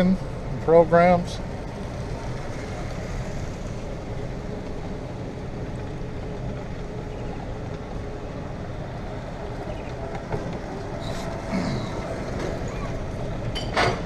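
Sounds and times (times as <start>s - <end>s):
golf cart driving: 0.0s - 14.0s.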